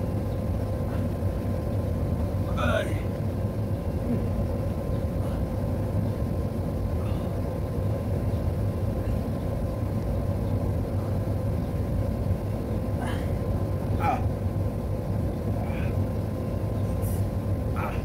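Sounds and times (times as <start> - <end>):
faint constant hum: 0.0 - 18.0
low background rumble: 0.0 - 18.0.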